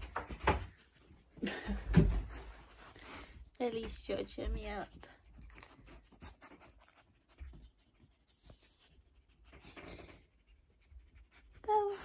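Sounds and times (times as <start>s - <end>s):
faint scratchy rustling: 2.2s - 12.0s.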